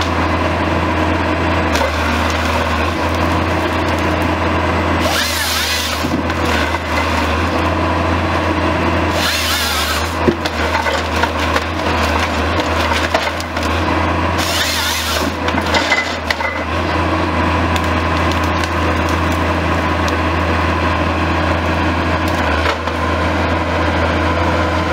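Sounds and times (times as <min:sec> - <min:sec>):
chainsaw cutting through wood: 0:00.0 - 0:24.9
diesel engine under hydraulic load: 0:00.0 - 0:24.9
wood cracking and splintering: 0:01.5 - 0:20.6, 0:22.2 - 0:23.2.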